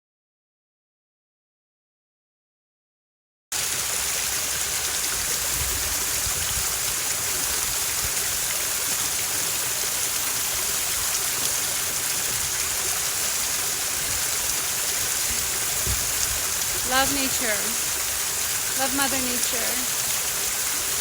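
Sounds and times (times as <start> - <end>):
running water: 3.6 - 21.0.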